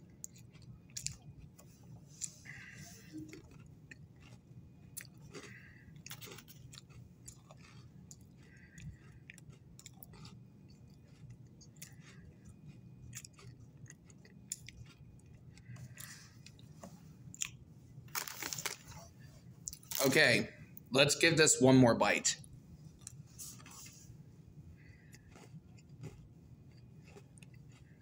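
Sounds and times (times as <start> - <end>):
person chewing crunchy cookie: 0.0 - 20.2, 22.4 - 24.0, 24.7 - 28.0
steady low hum: 0.0 - 28.0.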